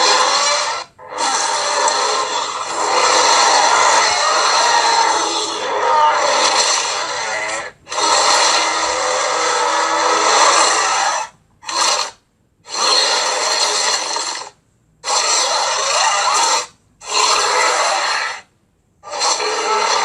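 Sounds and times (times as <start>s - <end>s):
raspy hissing creature growls: 0.0s - 20.0s.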